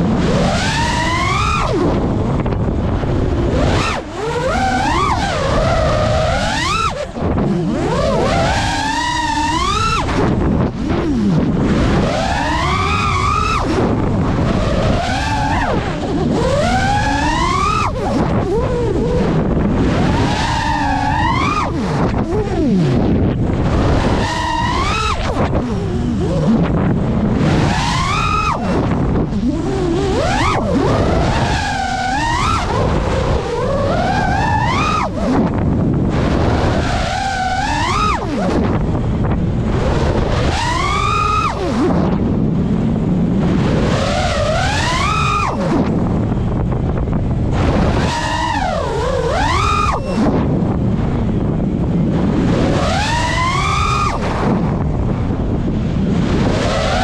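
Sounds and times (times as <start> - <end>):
drone motors whining: 0.0 - 57.0
prop wash and wind rushing: 0.0 - 57.0.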